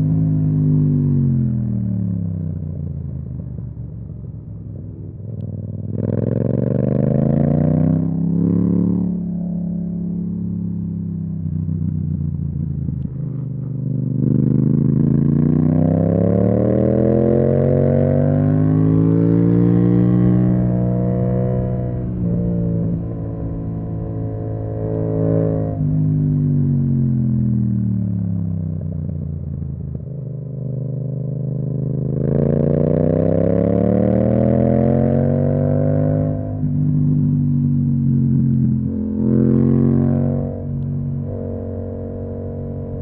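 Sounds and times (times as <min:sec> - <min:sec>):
motorcycle engine revving: 0:04.9 - 0:43.0.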